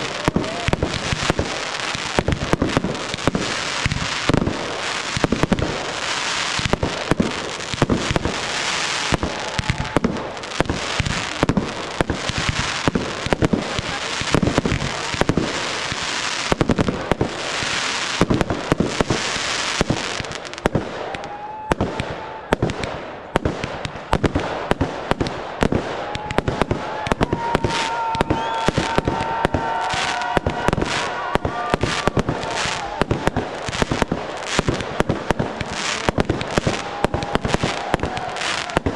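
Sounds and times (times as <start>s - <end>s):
fireworks launching and bursting: 0.0s - 38.9s
whistling fireworks: 0.0s - 38.9s.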